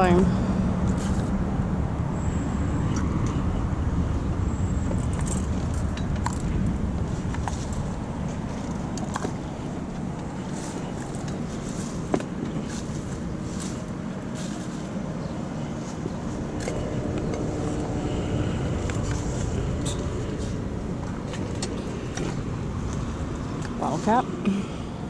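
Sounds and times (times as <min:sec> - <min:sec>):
motor vehicle humming: 0:00.0 - 0:25.0
road noise: 0:00.0 - 0:25.0.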